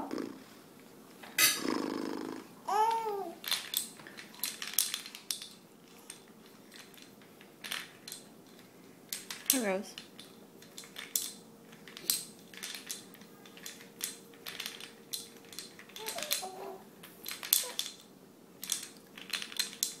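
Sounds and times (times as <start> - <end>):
faint steady hum: 0.0 - 20.0
irregular clicks and rustles: 2.7 - 20.0.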